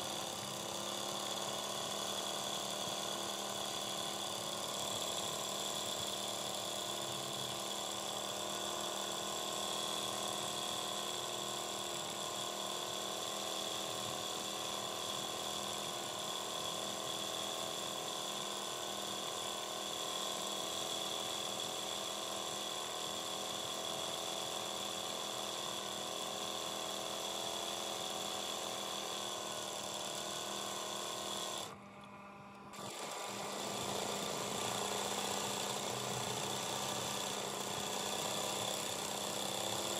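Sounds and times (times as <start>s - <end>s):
embroidery sewing machine running: 0.0s - 31.8s, 32.8s - 39.9s.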